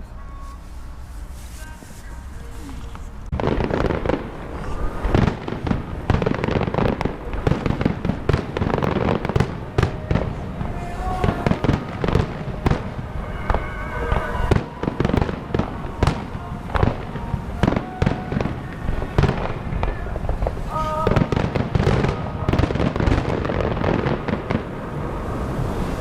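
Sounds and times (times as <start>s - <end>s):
fireworks bangs and crackles: 0.8s - 26.0s.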